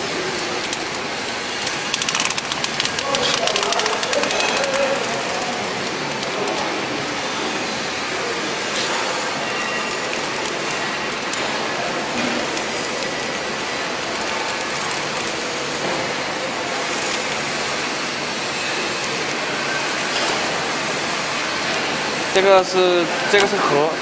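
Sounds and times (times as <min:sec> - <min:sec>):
factory background hiss: 0:00.0 - 0:24.0.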